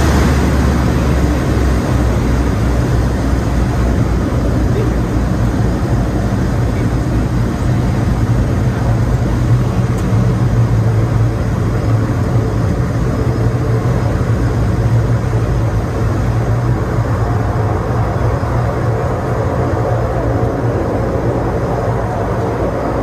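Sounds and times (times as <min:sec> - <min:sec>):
loud wash of cabin noise: 0:00.0 - 0:23.0
turboprop engines humming: 0:00.0 - 0:23.0.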